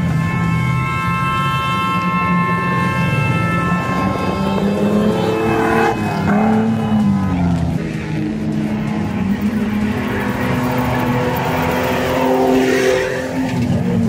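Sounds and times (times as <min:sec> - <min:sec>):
racing engines droning: 0:00.0 - 0:14.0.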